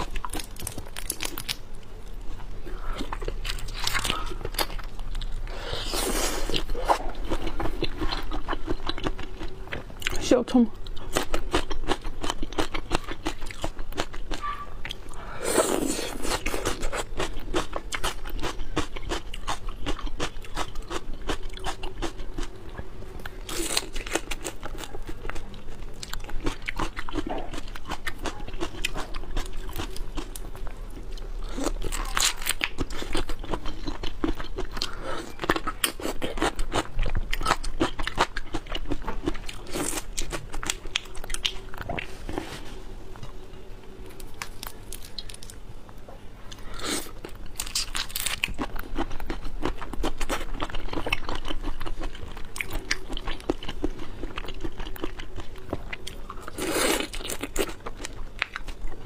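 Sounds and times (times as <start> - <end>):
wet chewing with crunchy clicks: 6.4 - 10.2, 10.8 - 15.2, 16.2 - 42.2, 44.1 - 59.0.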